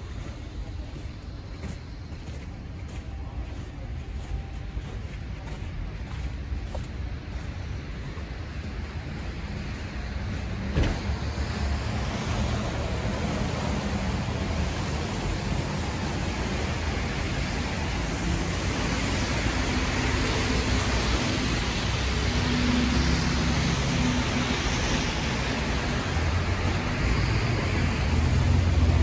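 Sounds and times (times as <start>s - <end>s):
cars passing on wet road: 0.0s - 29.0s.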